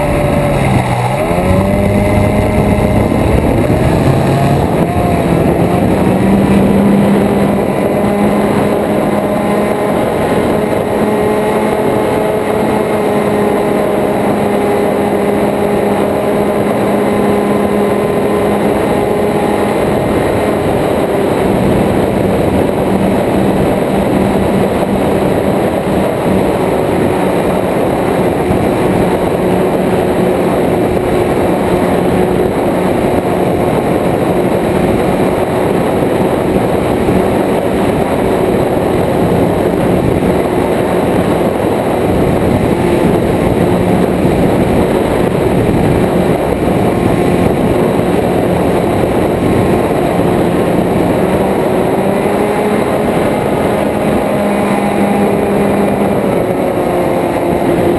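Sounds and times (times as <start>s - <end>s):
propeller engine running: 0.0s - 57.9s.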